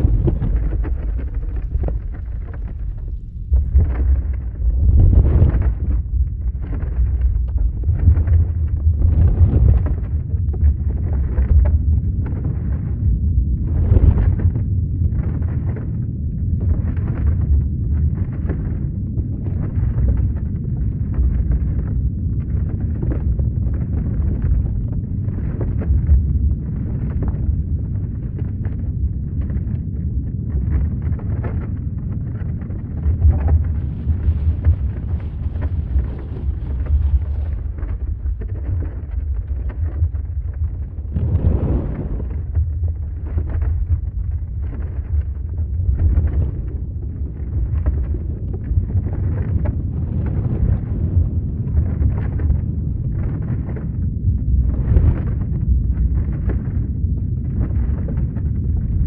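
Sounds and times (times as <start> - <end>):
crackles and rattles: 0.0 - 59.0
deep earthquake rumble: 0.0 - 59.0.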